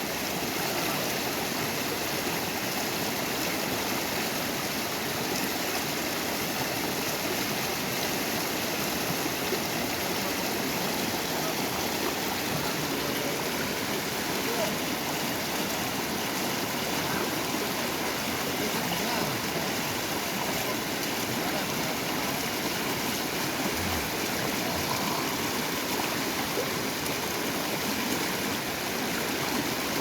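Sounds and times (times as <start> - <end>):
river rushing over stones: 0.0 - 30.0.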